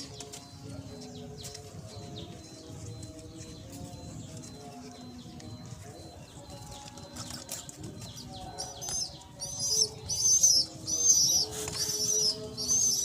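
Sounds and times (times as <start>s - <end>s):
bird singing high shrill notes: 0.0s - 13.0s.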